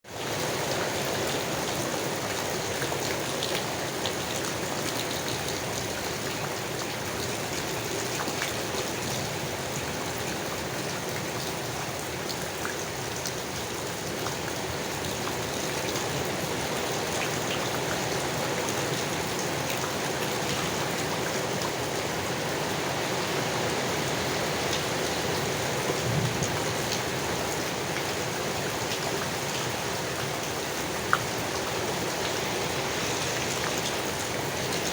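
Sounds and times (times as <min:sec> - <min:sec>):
rain falling on leaves: 0:00.0 - 0:34.9.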